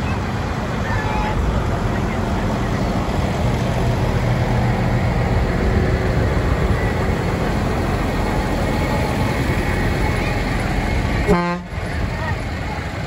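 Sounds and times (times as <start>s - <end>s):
tractor engines passing: 0.0s - 13.0s.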